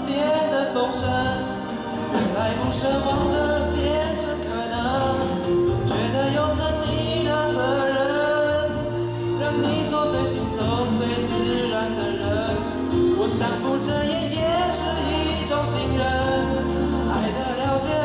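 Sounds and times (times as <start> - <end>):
karaoke backing track: 0.0 - 18.0
man singing into a microphone: 0.0 - 18.0.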